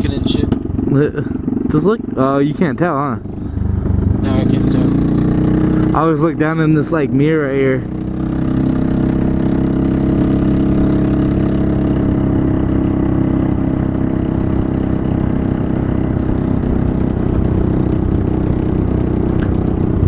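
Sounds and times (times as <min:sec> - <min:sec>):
motor scooter engine running: 0:00.0 - 0:20.0.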